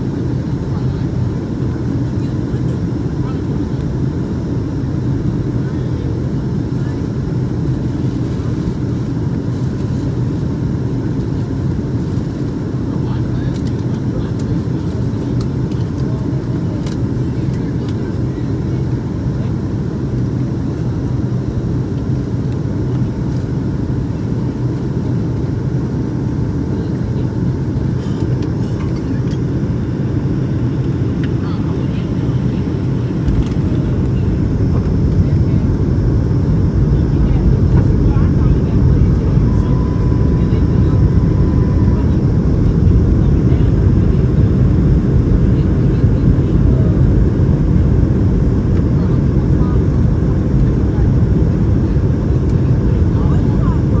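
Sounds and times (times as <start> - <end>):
low rumble of jet engines: 0.0 - 54.0.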